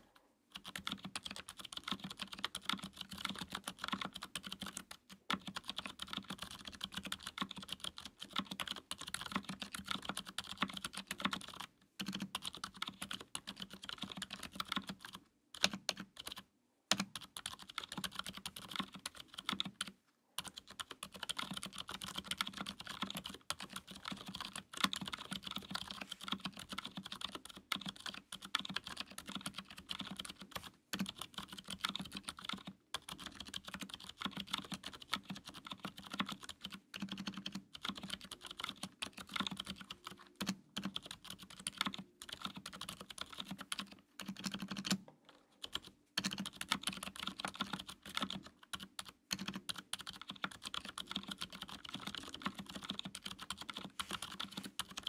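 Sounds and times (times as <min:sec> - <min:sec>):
fast typing on mechanical keyboard: 0:00.5 - 0:45.0, 0:45.6 - 0:55.0.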